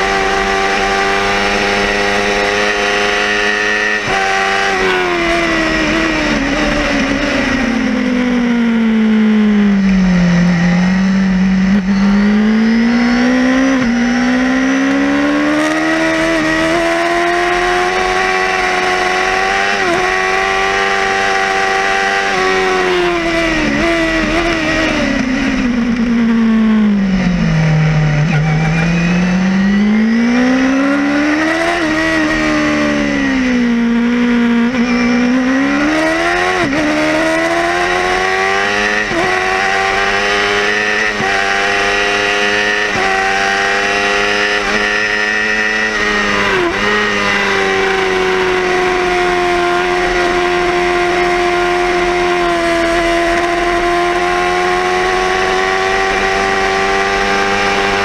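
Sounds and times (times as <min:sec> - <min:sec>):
motorcycle race engine: 0:00.0 - 0:58.0.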